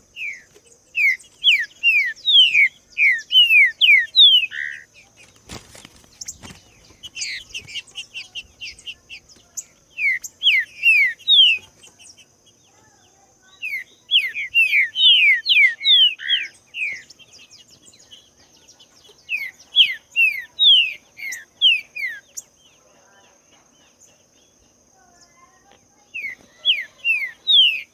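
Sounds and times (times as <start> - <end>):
bird whistling song: 0.0 - 5.1, 6.2 - 12.8, 13.4 - 22.5, 26.0 - 27.9
faint high chirps: 0.0 - 27.9
faint high-pitched hum: 0.0 - 27.9.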